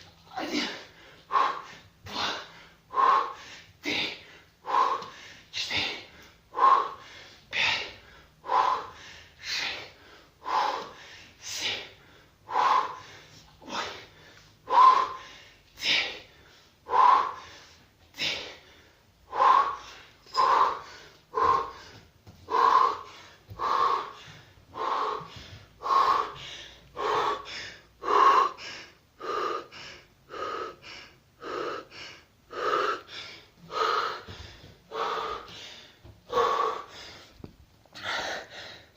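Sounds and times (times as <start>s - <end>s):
heavy rhythmic breathing: 0.0s - 38.9s.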